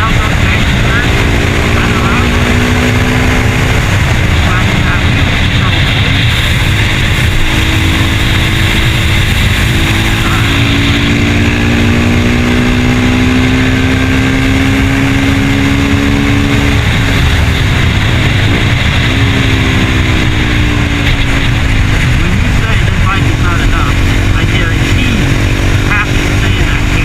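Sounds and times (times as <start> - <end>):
motorcycle engine running: 0.0 - 27.0
wind rush on microphone: 0.0 - 27.0.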